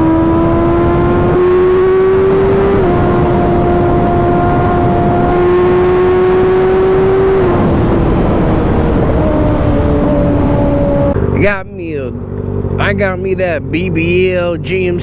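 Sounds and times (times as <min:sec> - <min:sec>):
motorcycle engine at high speed: 0:00.0 - 0:15.0
wind and road rush: 0:00.0 - 0:15.0.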